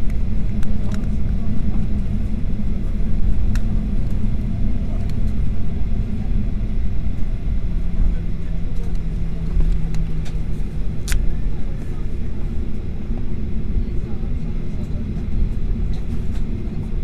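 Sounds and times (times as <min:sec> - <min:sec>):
aircraft cabin low rumble: 0:00.0 - 0:17.0.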